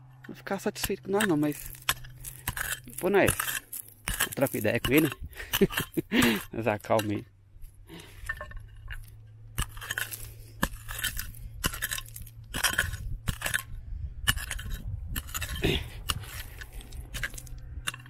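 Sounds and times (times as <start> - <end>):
metal tool striking stony ground: 0.0 - 18.0
tool scraping rock: 0.0 - 18.0.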